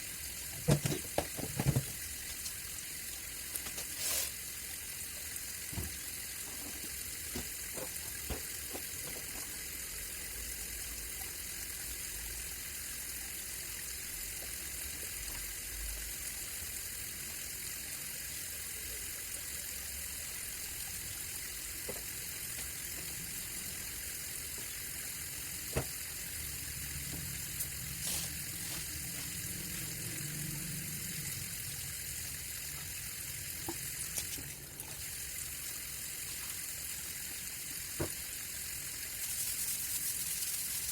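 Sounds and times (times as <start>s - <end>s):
running water hiss: 0.0s - 40.9s.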